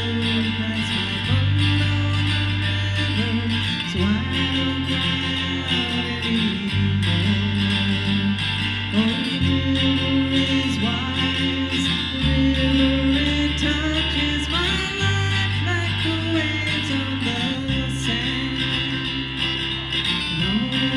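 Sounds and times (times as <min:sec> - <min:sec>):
strummed acoustic guitar: 0:00.0 - 0:20.9.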